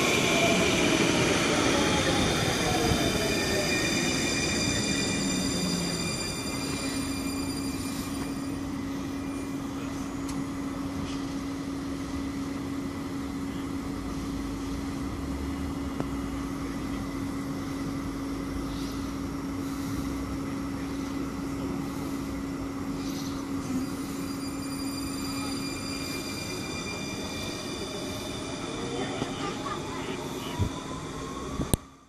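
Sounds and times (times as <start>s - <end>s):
tram equipment humming: 0.0s - 32.0s.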